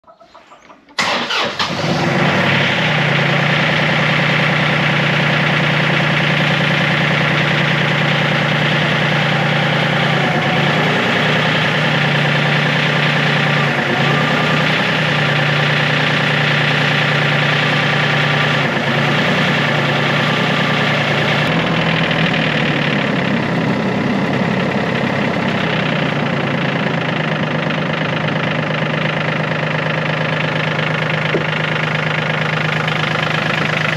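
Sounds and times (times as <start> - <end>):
diesel engine idling: 1.0 - 33.9.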